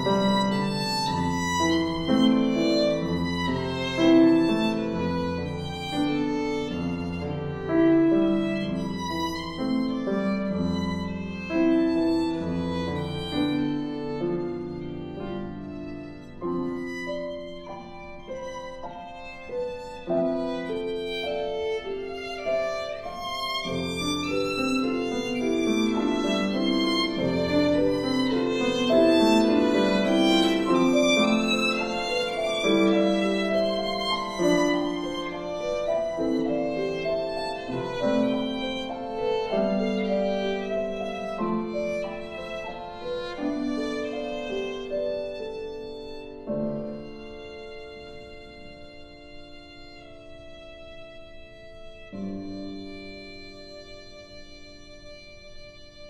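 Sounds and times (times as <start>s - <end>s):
piano chords: 0.0s - 55.6s
violin melody: 0.0s - 56.0s.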